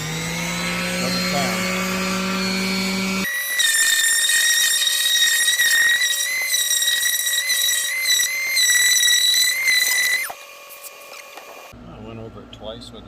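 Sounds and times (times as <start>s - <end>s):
electric drill sanding whine: 0.0s - 11.7s.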